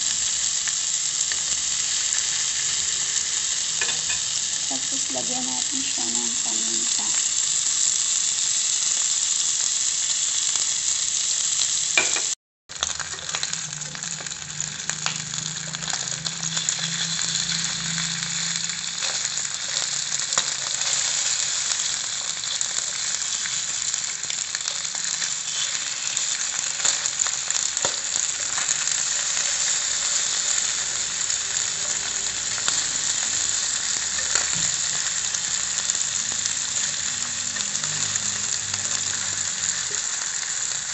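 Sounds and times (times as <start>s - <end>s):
fish sizzling in oil: 0.0s - 40.9s.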